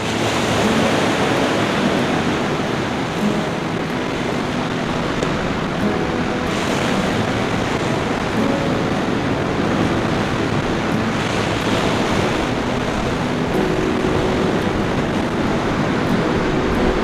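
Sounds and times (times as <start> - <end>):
ocean surf on rocky shore: 0.0 - 17.0.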